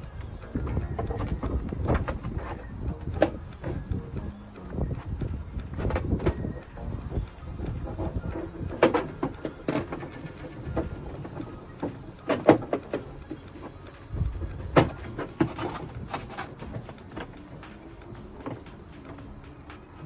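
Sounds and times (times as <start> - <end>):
plastic panel knocks and clicks: 0.2 - 4.0, 5.0 - 6.6, 7.7 - 19.2.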